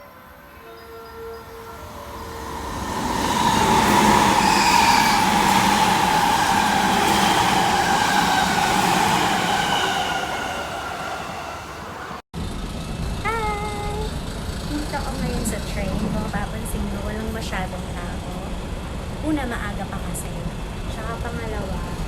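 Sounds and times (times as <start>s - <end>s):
passenger train rumbling with whine: 0.0s - 22.0s.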